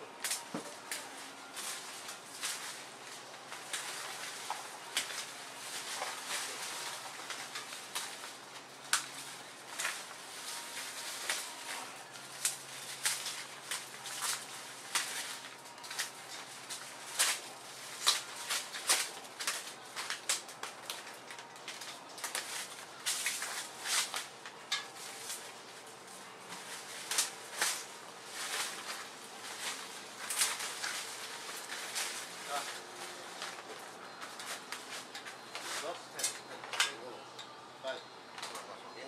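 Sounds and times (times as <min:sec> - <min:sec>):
twigs snapping: 0:00.2 - 0:25.6, 0:26.6 - 0:37.0
leaves and twigs rustling: 0:00.2 - 0:37.1.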